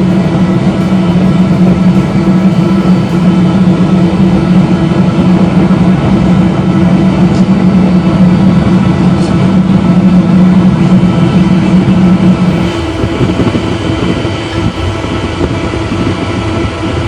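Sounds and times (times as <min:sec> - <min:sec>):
oil burner droning: 0:00.0 - 0:17.0.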